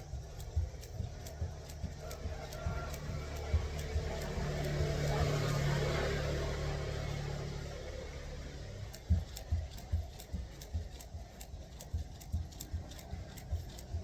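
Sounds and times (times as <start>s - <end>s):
jump rope ticking on ground: 0.0s - 7.4s, 8.8s - 14.0s
passing vehicle hum: 0.0s - 14.0s.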